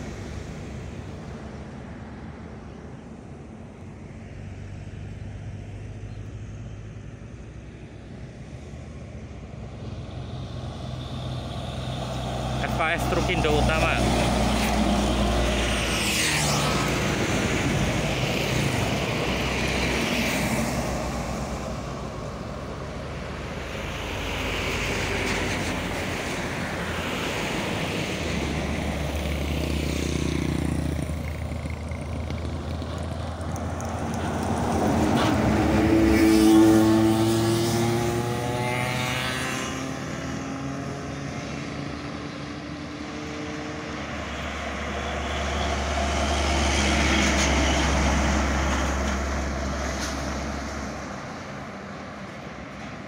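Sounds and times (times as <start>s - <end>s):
heavy diesel trucks passing: 0.0s - 53.0s.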